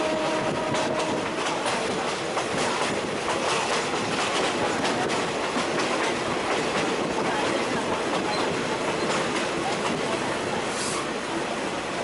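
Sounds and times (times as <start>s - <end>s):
train wheels rushing on rails: 0.0s - 12.0s
rail joint clicks: 0.1s - 11.1s.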